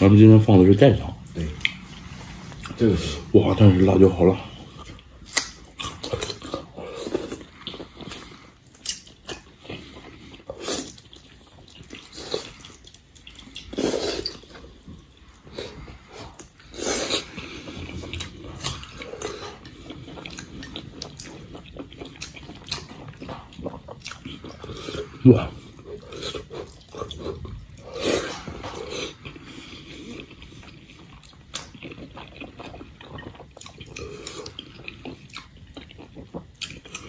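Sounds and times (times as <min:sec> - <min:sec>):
wet chewing and slurping: 0:00.0 - 0:37.0.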